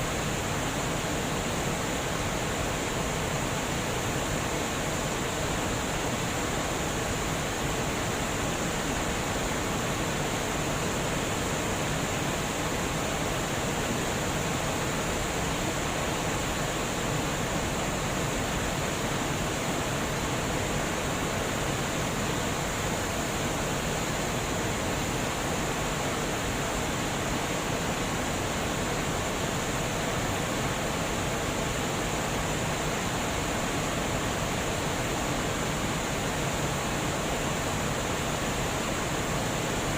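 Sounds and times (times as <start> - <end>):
water rushing over a dam: 0.0 - 39.9.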